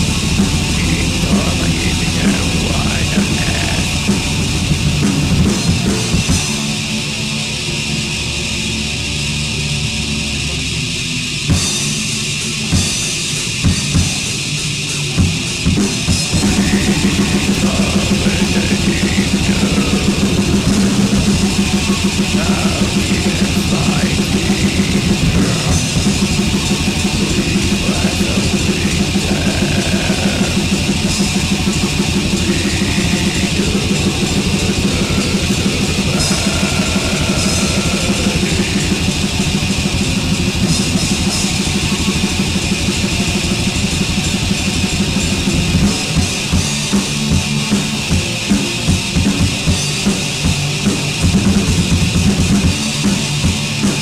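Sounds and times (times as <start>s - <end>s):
fast drumming: 0.0s - 7.1s, 11.4s - 54.0s
distorted guitars: 0.0s - 54.0s.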